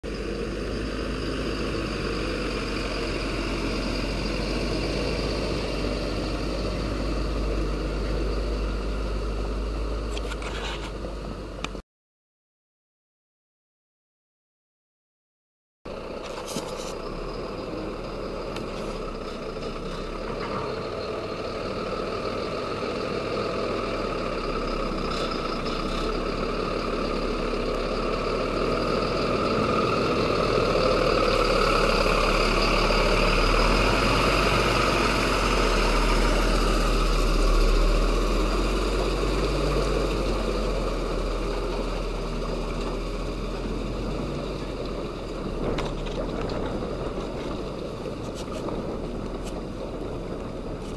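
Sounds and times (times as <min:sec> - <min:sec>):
truck diesel engine: 0:00.0 - 0:11.8, 0:15.9 - 0:50.9.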